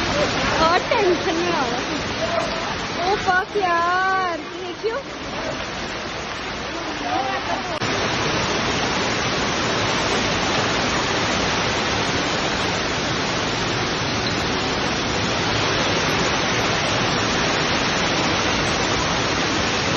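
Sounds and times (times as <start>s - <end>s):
heavy rain on metal roof: 0.0s - 19.9s.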